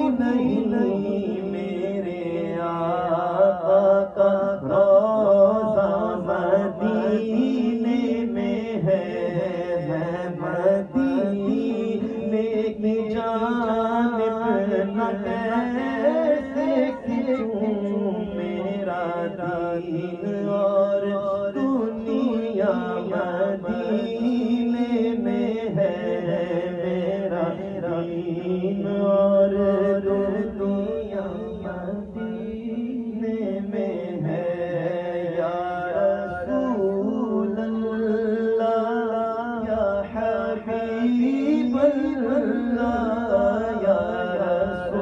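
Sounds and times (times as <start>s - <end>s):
men singing devotional song: 0.0s - 45.0s.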